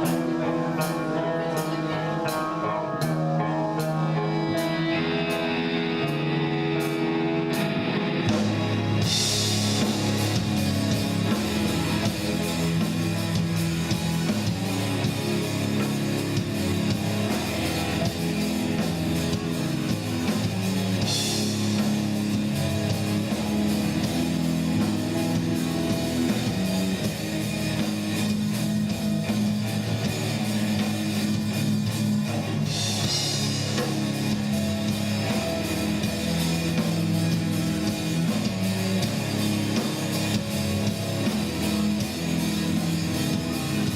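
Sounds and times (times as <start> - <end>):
instrumental rock music: 0.0 - 43.9.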